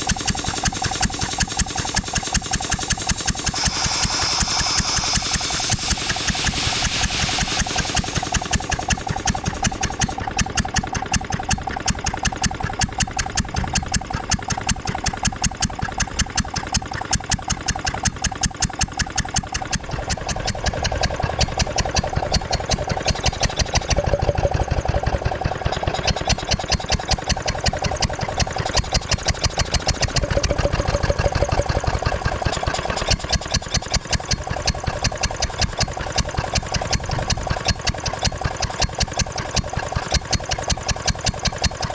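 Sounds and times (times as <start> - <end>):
air compressor engine running: 0.0 - 41.9.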